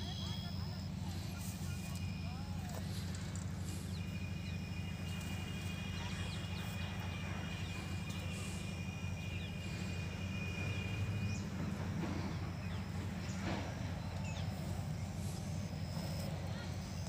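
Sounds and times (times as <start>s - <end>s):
bird chirps: 0.0s - 17.0s
steady low rumble: 0.0s - 17.0s.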